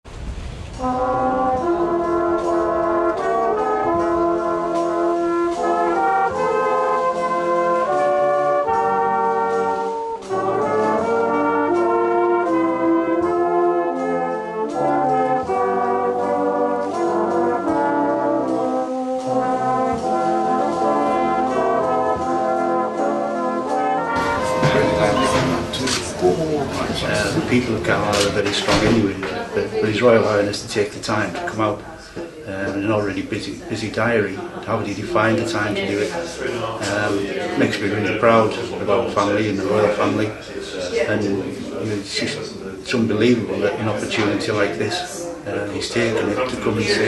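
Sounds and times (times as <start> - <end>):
brass instruments playing in harmony: 0.7 - 47.0.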